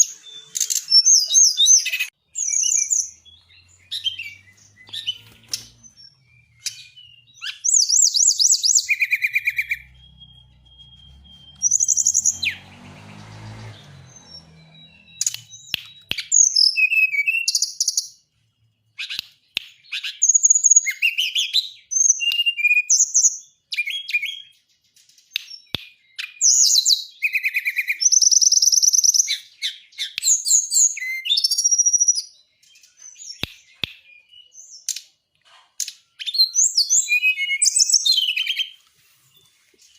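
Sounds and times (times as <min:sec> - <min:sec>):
songbird trilling and chirping: 0:00.0 - 0:13.0, 0:13.6 - 0:35.2, 0:35.8 - 0:39.9.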